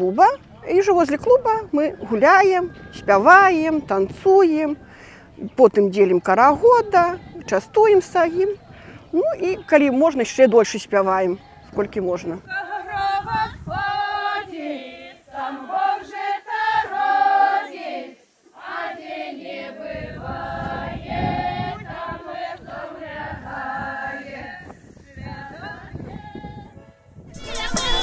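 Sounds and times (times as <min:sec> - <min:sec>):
women singing together: 0:00.0 - 0:04.8, 0:05.4 - 0:26.8, 0:27.4 - 0:28.0.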